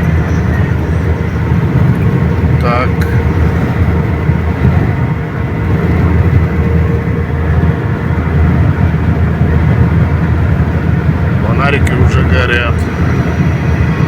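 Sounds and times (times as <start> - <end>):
faint steady whine: 0.0 - 14.0
truck engine and road rumble: 0.0 - 14.0.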